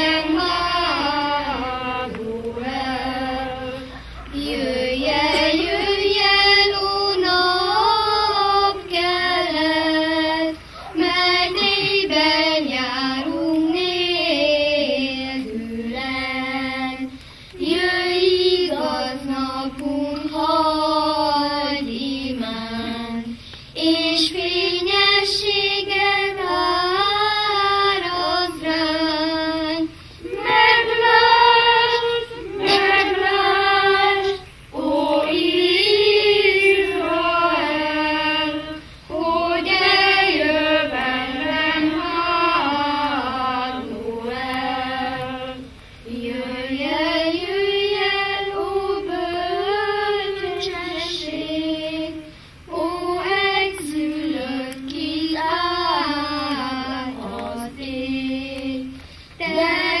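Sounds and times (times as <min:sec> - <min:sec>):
children's choir singing: 0:00.0 - 1:00.0
woman singing: 0:00.0 - 1:00.0.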